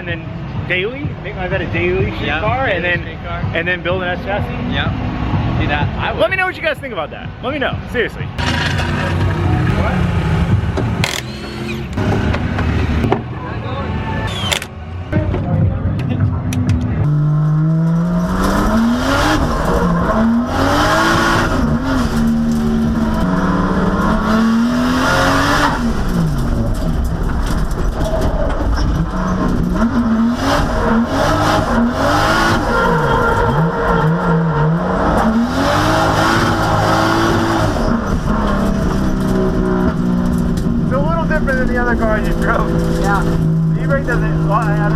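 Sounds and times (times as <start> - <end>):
tire noise: 0.0 - 44.9
car engine revving: 8.3 - 44.9.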